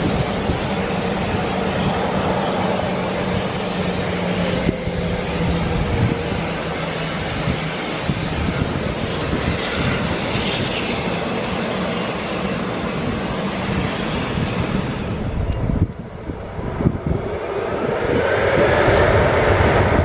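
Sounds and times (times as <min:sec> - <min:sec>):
airplane engine noise: 0:00.0 - 0:20.0.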